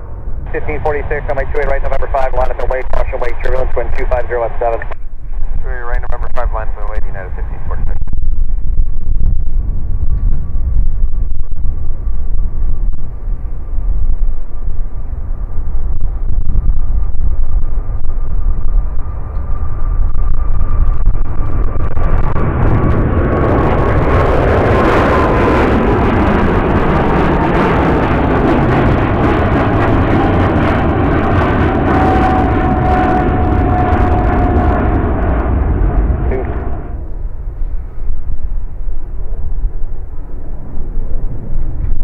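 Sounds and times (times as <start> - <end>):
jet airliner engines whining: 0.0 - 42.0.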